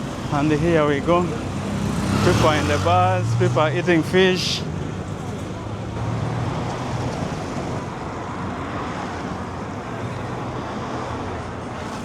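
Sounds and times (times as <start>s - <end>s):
street noise: 0.0s - 12.0s
vehicle engines humming: 0.0s - 12.0s.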